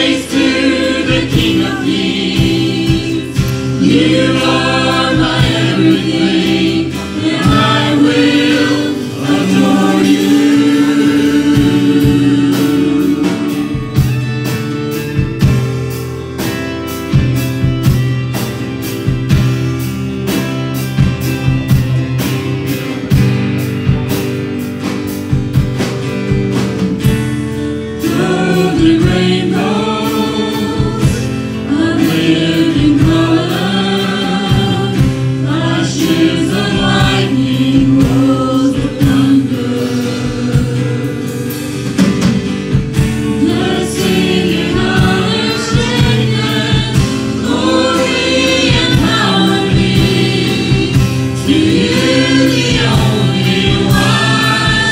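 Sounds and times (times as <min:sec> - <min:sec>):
group of singers: 0:00.0 - 0:23.4, 0:27.0 - 0:54.9
gospel band with drum beat: 0:00.0 - 0:54.9.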